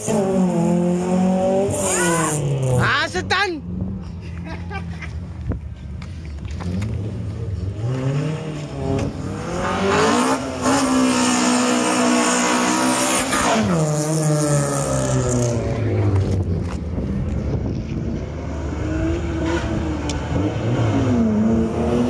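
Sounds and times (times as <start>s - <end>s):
car engine revving: 0.0s - 3.0s, 6.4s - 22.0s.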